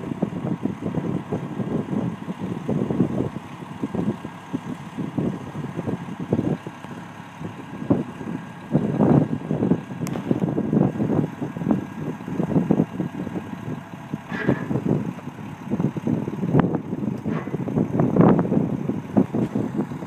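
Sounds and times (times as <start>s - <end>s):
gusty low rumble: 0.0s - 20.0s.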